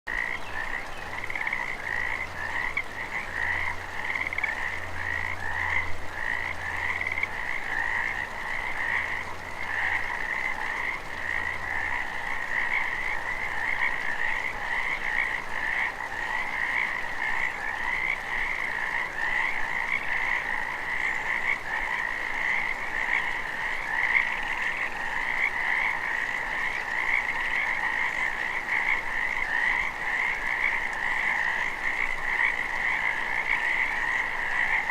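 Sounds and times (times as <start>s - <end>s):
frogs croaking: 0.1s - 34.9s.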